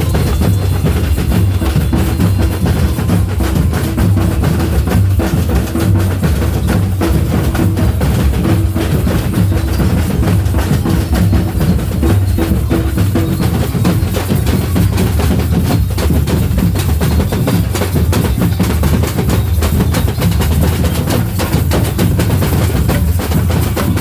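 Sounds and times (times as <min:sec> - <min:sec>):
samba drum group playing: 0:00.0 - 0:24.0.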